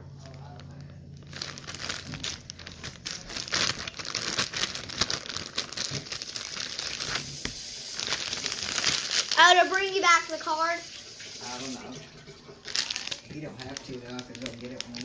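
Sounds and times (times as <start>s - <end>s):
slime crackling and popping: 0.2s - 10.0s, 12.6s - 15.0s.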